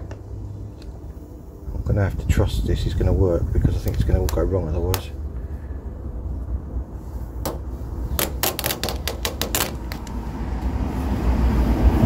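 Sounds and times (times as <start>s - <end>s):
low rumble: 0.0s - 8.2s, 9.8s - 12.0s.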